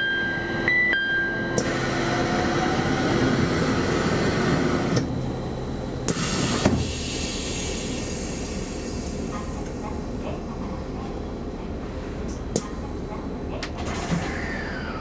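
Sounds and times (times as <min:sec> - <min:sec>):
train equipment hum and hiss: 0:00.0 - 0:15.0.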